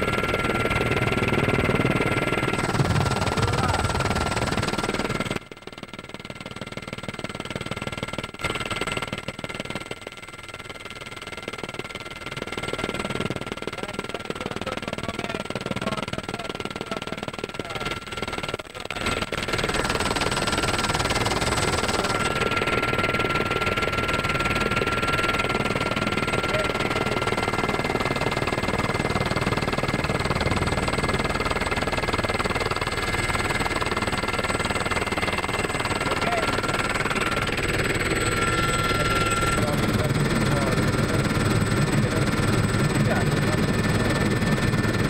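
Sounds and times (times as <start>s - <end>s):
helicopter cabin rumble: 0.0s - 5.4s, 12.8s - 45.0s
high-pitched turbine whine: 0.0s - 5.6s, 12.4s - 45.0s.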